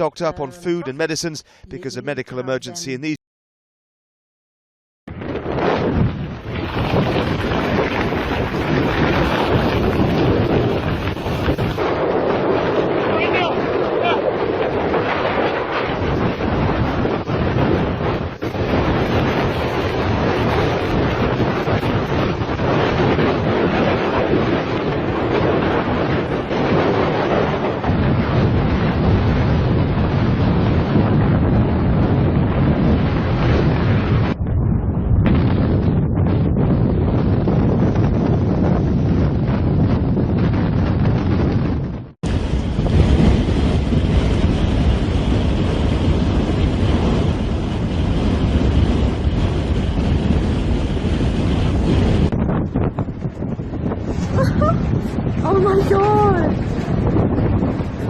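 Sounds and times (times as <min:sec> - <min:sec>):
strong wind on microphone: 0:05.1 - 0:58.0.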